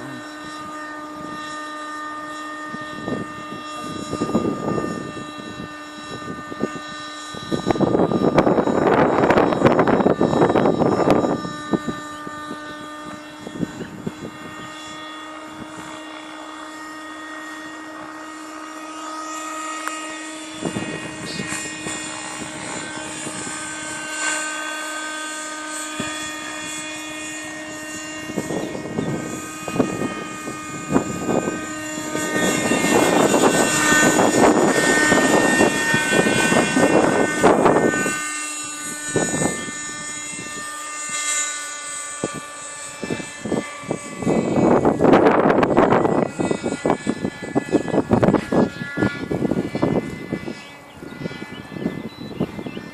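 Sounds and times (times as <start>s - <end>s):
model helicopter engine whine: 0.0s - 52.9s.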